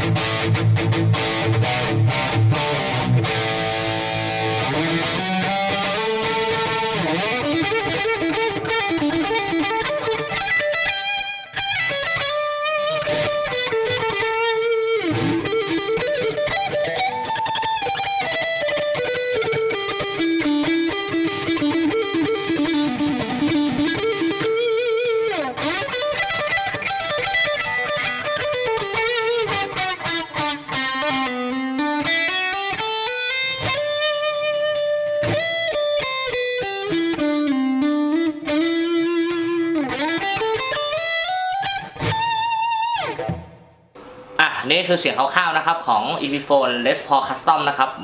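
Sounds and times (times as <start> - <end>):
distorted electric guitar solo: 0.0 - 48.0.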